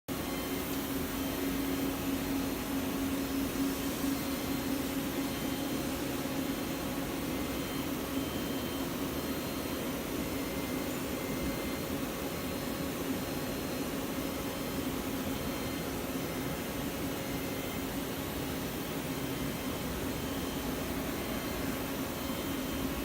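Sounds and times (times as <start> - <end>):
machine hum with hiss: 0.1 - 23.0.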